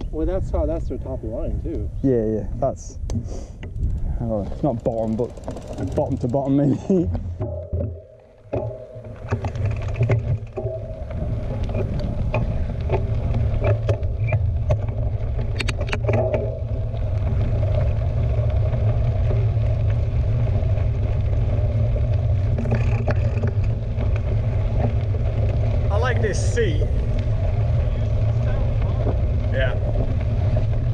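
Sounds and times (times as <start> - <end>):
wind rumbling on microphone: 0.0 - 30.9
bike clicks and rattles: 2.9 - 30.9.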